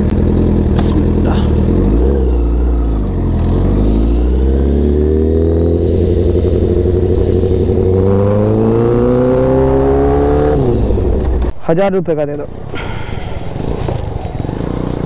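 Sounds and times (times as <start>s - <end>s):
motorcycle engine revving: 0.0s - 11.5s, 12.5s - 15.0s.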